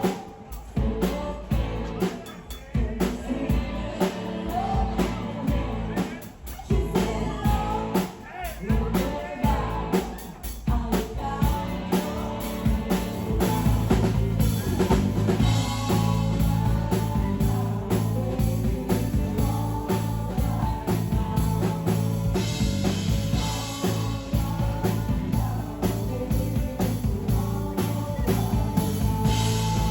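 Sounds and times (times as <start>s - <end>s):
song with drums bass and vocals: 0.0s - 29.9s.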